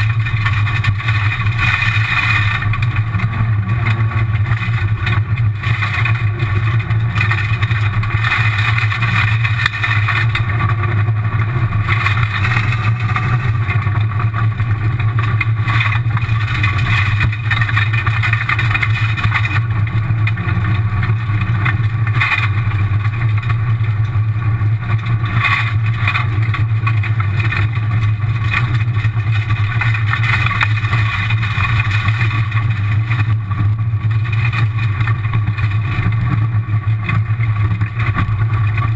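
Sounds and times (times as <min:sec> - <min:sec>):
car engine droning: 0:00.0 - 0:38.9
gravel noise from tyres: 0:00.0 - 0:38.9.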